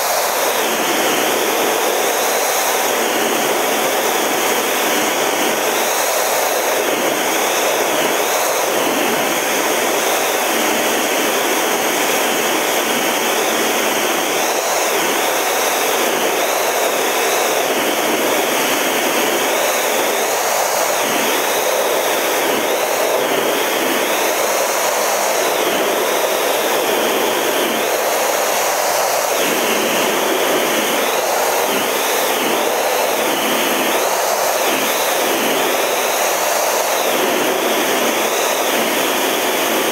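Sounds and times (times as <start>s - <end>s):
high wavering whine: 0.0s - 39.9s
jet engine and airflow in cockpit: 0.0s - 39.9s.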